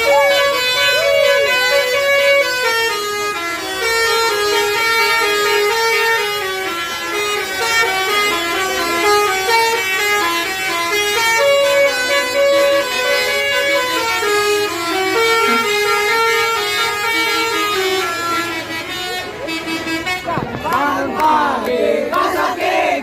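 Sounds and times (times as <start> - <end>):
musical bus horn playing tune: 0.0 - 20.8.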